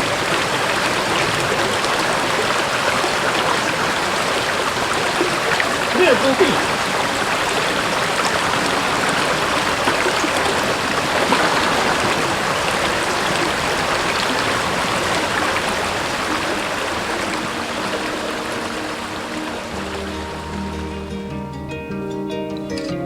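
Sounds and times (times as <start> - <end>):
stream running over rocks: 0.0 - 21.2.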